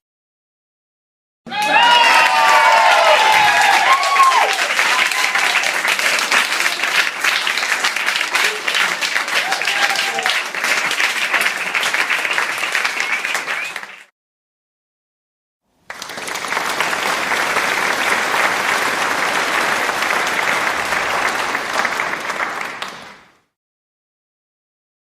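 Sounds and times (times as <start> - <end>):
applause: 1.5 - 14.1, 15.7 - 23.6.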